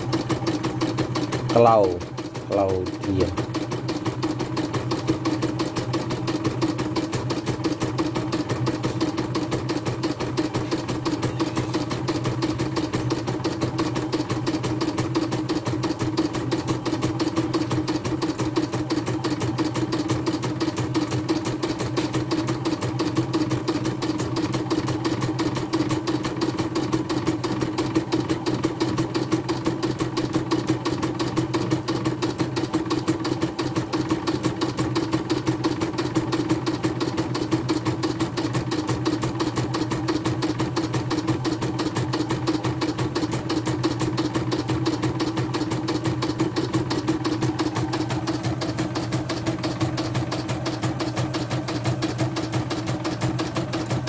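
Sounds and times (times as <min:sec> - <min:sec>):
motor hum: 0:00.0 - 0:54.0.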